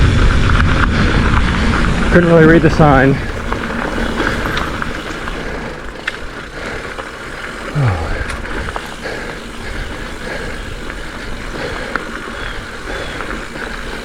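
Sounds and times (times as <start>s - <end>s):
bike clicks and rattles: 0.0s - 14.0s
wind and tyre noise: 0.0s - 14.0s.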